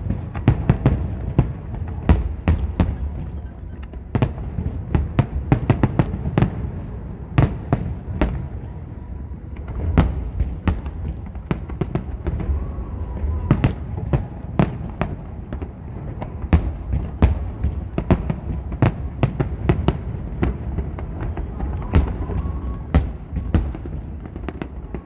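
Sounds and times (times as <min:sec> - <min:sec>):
fireworks bangs and cracks: 0:00.0 - 0:25.0.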